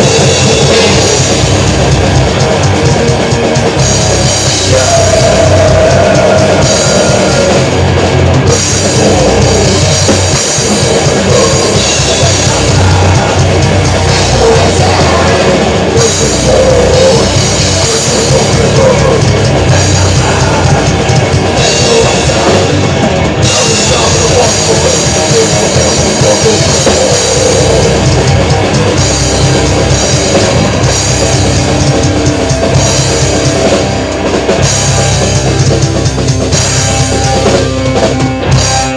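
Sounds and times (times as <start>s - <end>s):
metal band playing: 0.0s - 38.9s.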